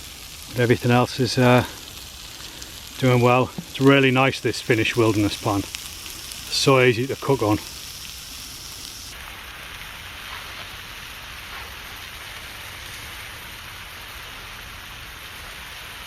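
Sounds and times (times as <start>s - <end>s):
mushrooms sizzling in a frying pan: 0.0s - 16.0s.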